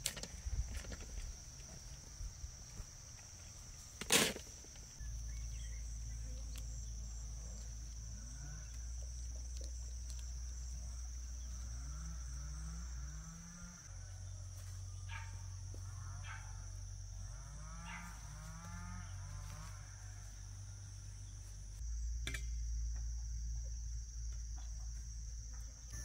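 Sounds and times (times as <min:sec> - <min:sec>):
insect drone: 0:00.0 - 0:26.0.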